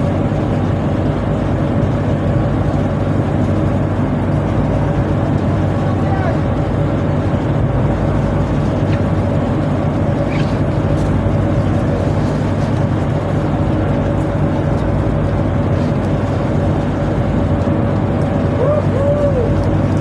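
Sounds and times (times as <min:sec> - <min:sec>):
machinery low drone: 0:00.0 - 0:20.0.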